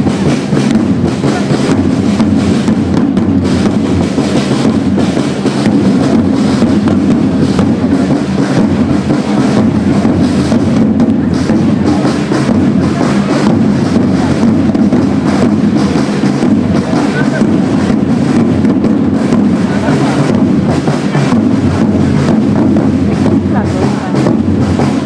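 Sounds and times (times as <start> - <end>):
marching side drums: 0.0 - 25.0.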